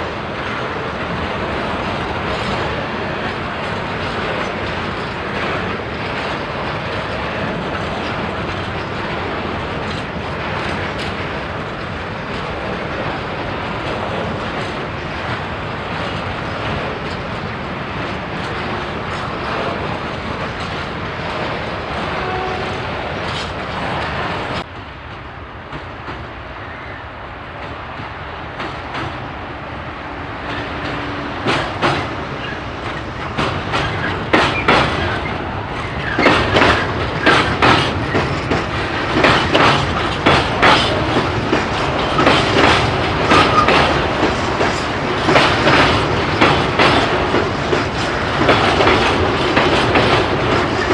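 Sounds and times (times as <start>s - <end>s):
train wheels clattering: 0.0s - 27.0s, 27.6s - 29.3s, 30.2s - 50.9s
freight train rumble: 0.0s - 50.9s.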